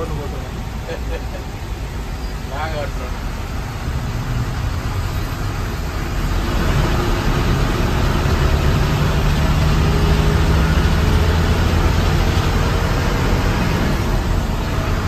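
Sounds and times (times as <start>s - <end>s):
coach engine: 0.0s - 15.0s
road noise: 0.0s - 15.0s.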